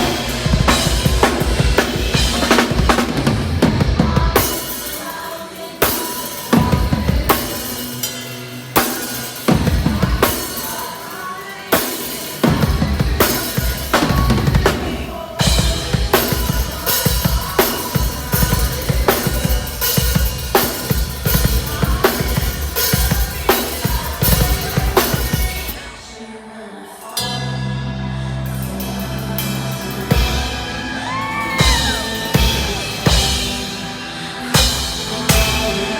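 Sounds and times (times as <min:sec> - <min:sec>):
heavy metal band playing live: 0:00.0 - 0:26.1, 0:27.1 - 0:35.9
heavy drumming: 0:00.0 - 0:26.2, 0:28.5 - 0:35.9.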